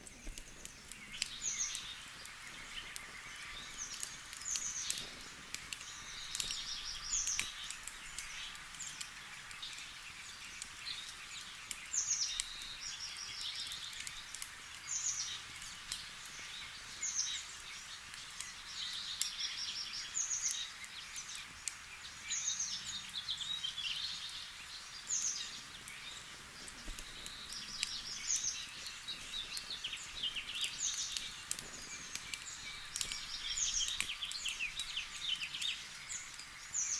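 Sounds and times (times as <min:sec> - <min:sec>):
campfire crackling: 0:00.0 - 0:36.9
songbirds singing: 0:00.0 - 0:36.9.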